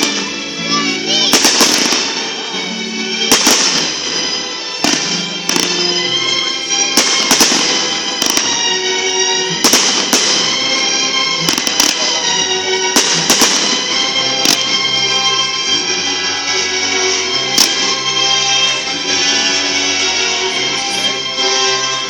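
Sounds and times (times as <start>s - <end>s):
fireworks bangs: 0.0s - 0.5s, 1.2s - 2.6s, 3.2s - 19.5s
loud music: 0.0s - 22.0s.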